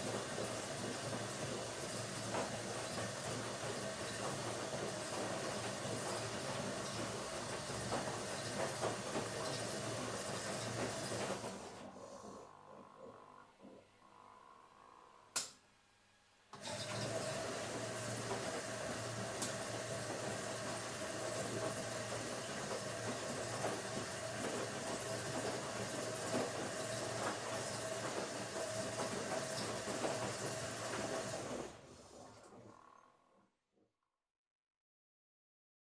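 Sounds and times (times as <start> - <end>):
washing machine running: 0.0 - 15.2, 16.6 - 32.8.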